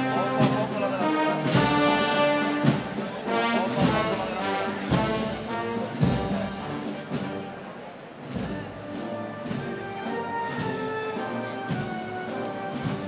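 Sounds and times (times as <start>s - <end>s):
brass band slow march: 0.0s - 13.0s
drum strokes: 0.0s - 13.0s.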